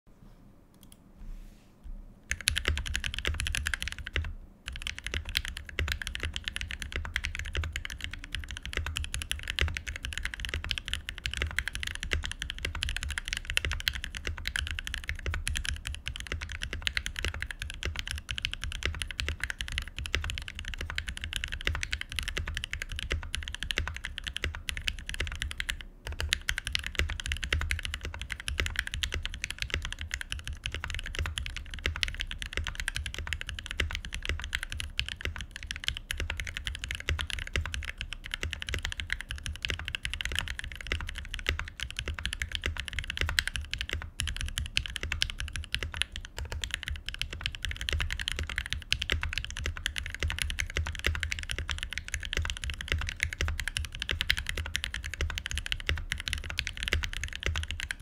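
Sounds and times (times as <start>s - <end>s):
mechanical keyboard typing: 2.3s - 58.0s.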